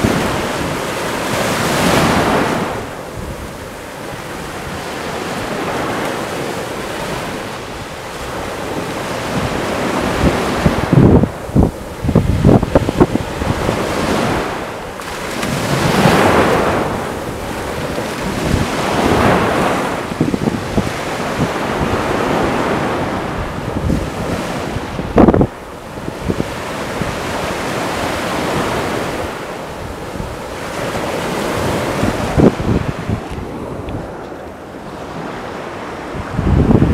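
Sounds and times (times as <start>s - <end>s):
waves breaking on beach: 0.0s - 36.9s
wind buffeting microphone: 0.0s - 36.9s.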